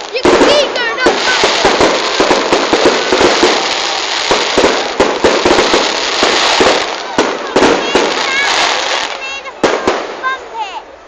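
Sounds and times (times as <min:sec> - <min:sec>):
fireworks bangs and crackling: 0:00.0 - 0:10.8.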